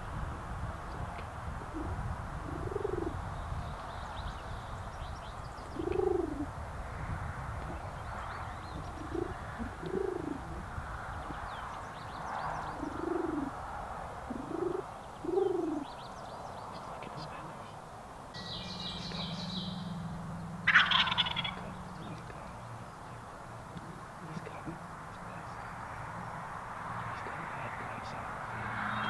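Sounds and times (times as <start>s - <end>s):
low cooing bird calls: 0.8s - 6.6s, 7.4s - 13.6s, 14.2s - 17.8s, 18.4s - 29.0s
faint songbird chirps: 0.8s - 6.7s, 7.6s - 13.6s, 14.2s - 29.0s.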